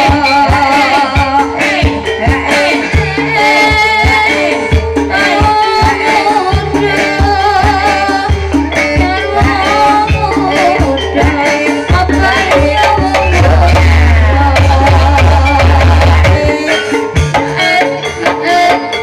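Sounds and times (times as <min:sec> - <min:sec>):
drum strikes: 0:00.0 - 0:17.6
gamelan melodic lines: 0:00.0 - 0:19.0.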